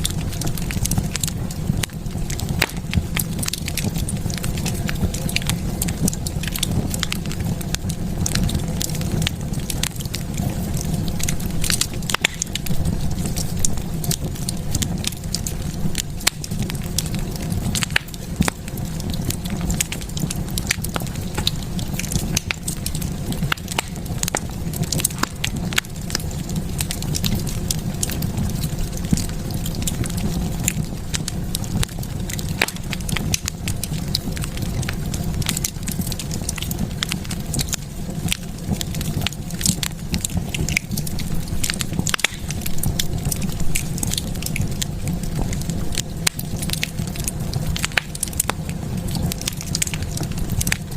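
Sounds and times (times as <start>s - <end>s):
low fire rumble: 0.0s - 50.9s
wood fire crackling and popping: 0.0s - 50.9s.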